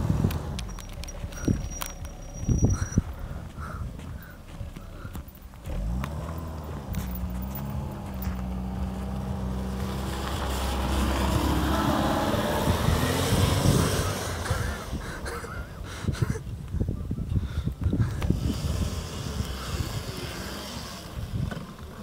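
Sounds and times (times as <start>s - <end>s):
tyres spinning in snow: 0.0s - 15.9s, 18.3s - 22.0s
car engine revving: 0.0s - 16.0s, 18.2s - 22.0s.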